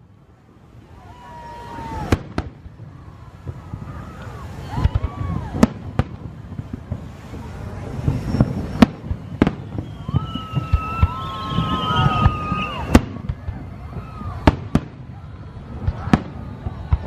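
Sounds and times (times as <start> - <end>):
fireworks bangs: 0.0 - 17.0
high fireworks whistles: 0.0 - 17.0
rumble and crackle of fireworks: 0.0 - 17.0.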